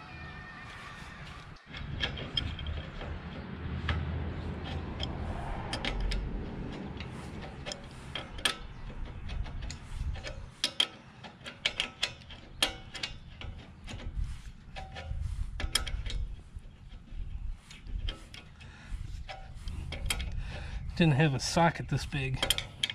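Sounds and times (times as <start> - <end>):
wrenches clinking on metal: 1.6 - 22.9.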